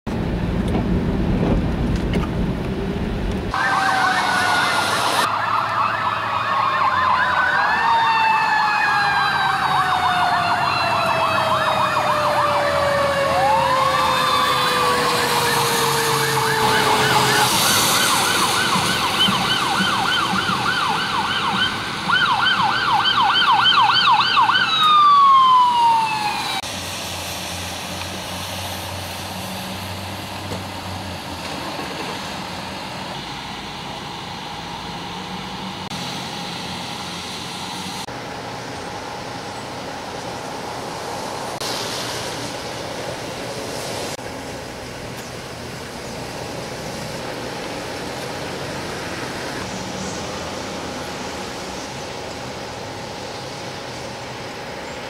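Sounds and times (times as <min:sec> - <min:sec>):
emergency vehicle sirens: 0:03.5 - 0:27.1, 0:27.7 - 0:55.0.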